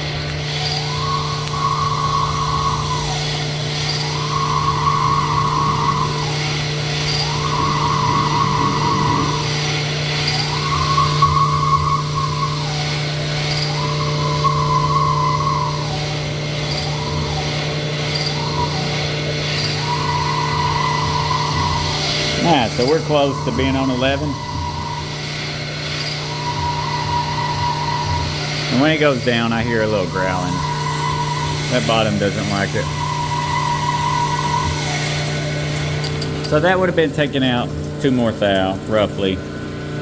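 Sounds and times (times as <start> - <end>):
hone whine: 0.0 - 40.0.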